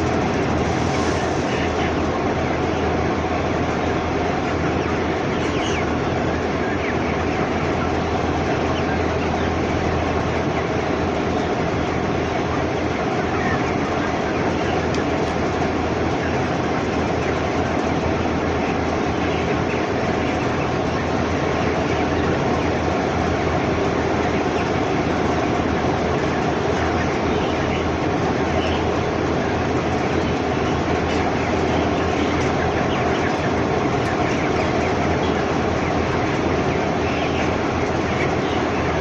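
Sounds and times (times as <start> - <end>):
chickens chattering and peeping: 0.0 - 39.0
steady low hum: 0.0 - 39.0.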